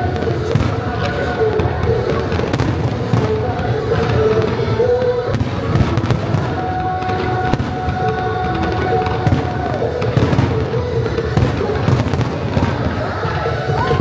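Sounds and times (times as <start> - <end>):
fireworks bursting: 0.0 - 14.0
music with held notes: 0.0 - 14.0.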